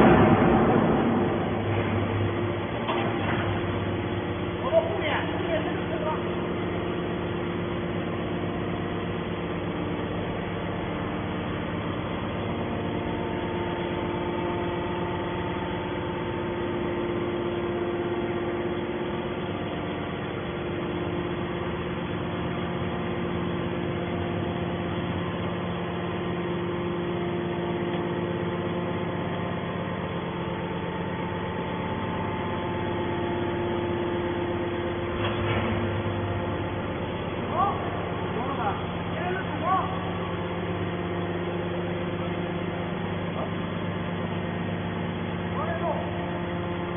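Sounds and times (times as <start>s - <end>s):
hydraulic pump motor humming: 0.0s - 46.9s.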